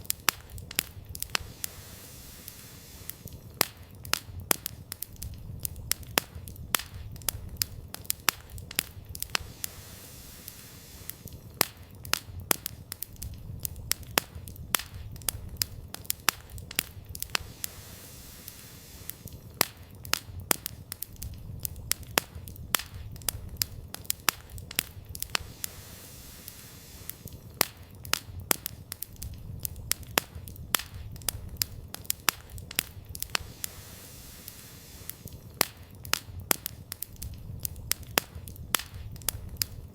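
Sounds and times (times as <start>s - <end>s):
firewood crackling and popping: 0.0s - 39.9s
low fire rumble: 0.0s - 39.9s.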